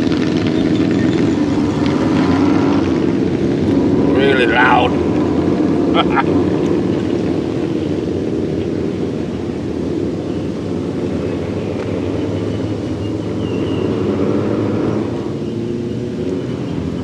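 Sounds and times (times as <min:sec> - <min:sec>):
motorcycles rumbling past: 0:00.0 - 0:17.0.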